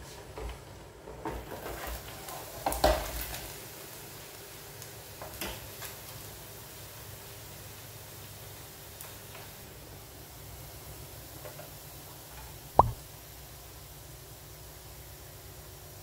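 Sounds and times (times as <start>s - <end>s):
hot oil sizzling: 1.9s - 16.0s.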